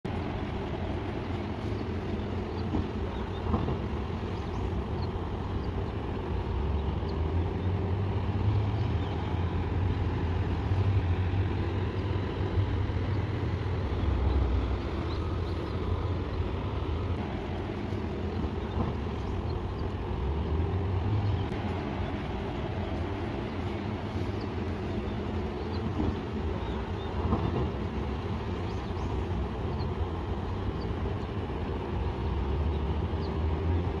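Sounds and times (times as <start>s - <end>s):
distant motor noise: 0.1s - 34.0s
wind rumbling on microphone: 0.1s - 34.0s.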